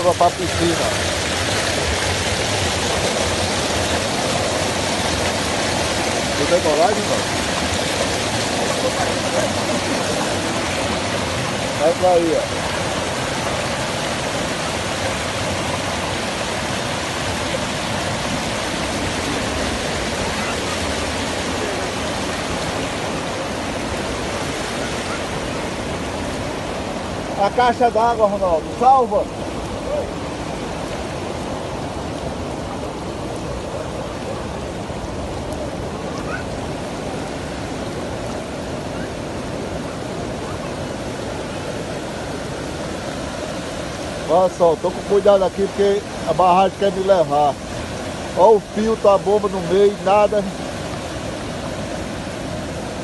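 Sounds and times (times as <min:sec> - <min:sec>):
water rushing over dam spillway: 0:00.0 - 0:53.0.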